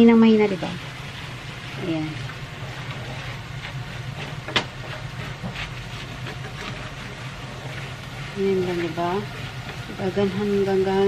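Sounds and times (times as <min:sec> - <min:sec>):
low hum and hiss: 0:00.0 - 0:11.0
chopsticks scraping a frying pan: 0:01.0 - 0:11.0.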